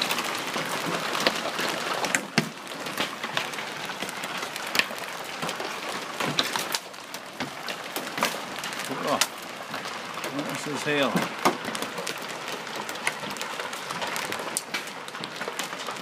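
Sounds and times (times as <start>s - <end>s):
hail hissing down: 0.0s - 16.0s
hailstones cracking on hard surfaces: 0.0s - 16.0s.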